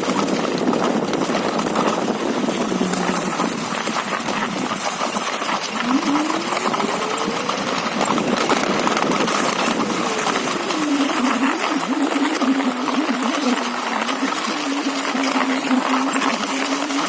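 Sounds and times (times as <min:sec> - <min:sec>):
dense rattling crackle: 0:00.0 - 0:17.0.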